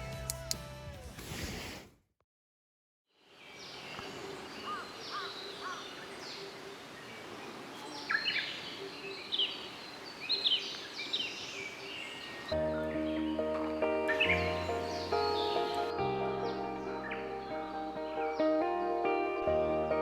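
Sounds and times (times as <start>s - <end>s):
birds chirping and singing: 3.4s - 19.6s.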